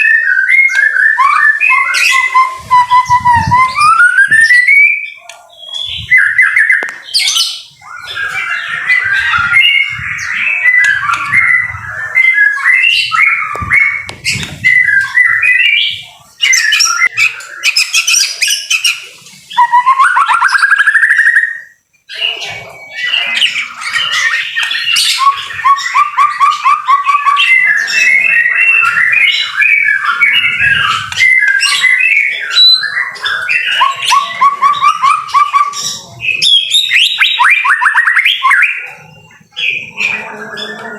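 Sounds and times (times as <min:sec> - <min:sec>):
songbird singing whistles and trills: 0:00.0 - 0:40.9.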